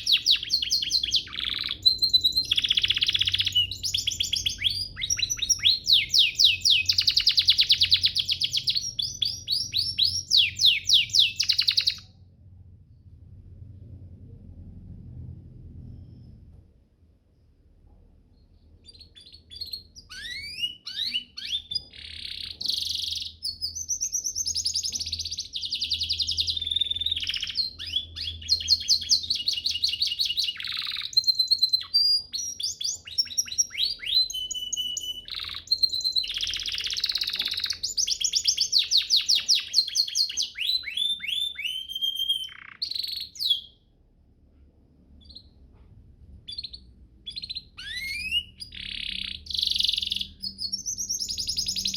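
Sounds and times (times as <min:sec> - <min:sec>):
canary singing trills: 0:00.0 - 0:12.2, 0:18.3 - 0:44.0, 0:45.1 - 0:45.7, 0:46.4 - 0:51.9.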